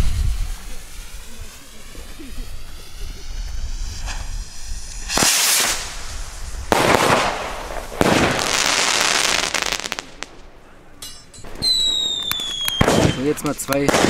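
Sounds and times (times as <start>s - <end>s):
firework rocket bangs: 0.0s - 10.7s, 11.5s - 14.0s
rapid firework crackle: 0.0s - 10.7s, 11.5s - 14.0s
hissing rumble: 0.0s - 14.0s.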